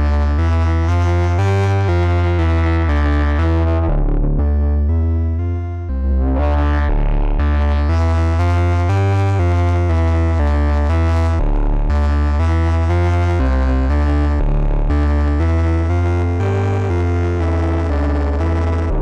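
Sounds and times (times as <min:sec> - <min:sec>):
distorted synthesizer sequence: 0:00.0 - 0:19.0.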